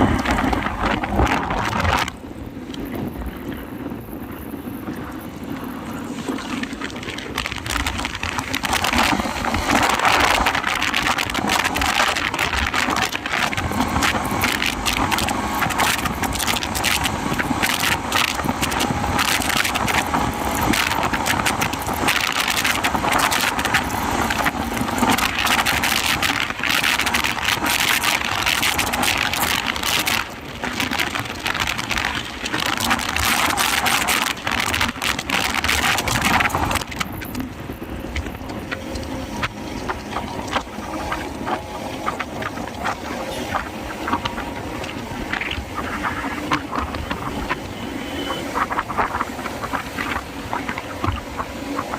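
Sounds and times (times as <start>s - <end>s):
motorcycle engine and road noise: 0.0s - 51.9s
wind buffeting microphone: 0.0s - 51.9s.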